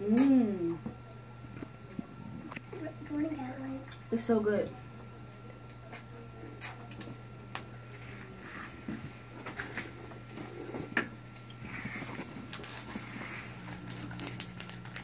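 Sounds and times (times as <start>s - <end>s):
faint clicks and eating sounds: 0.0s - 15.0s
steady low hum: 0.0s - 15.0s.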